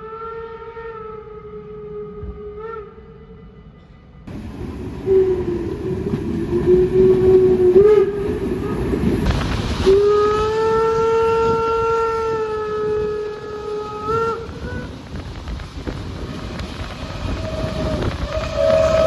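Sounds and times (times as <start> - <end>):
train horn sounding: 0.0 - 19.0
train rumbling: 0.0 - 19.0.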